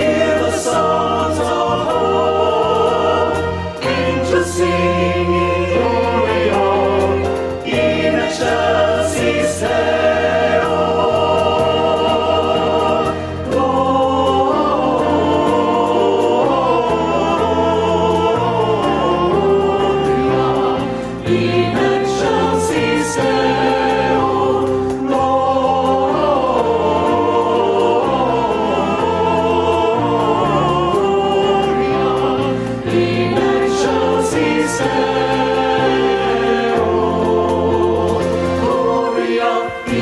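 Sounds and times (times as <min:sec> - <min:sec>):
choir singing sustained chords: 0:00.0 - 0:40.0.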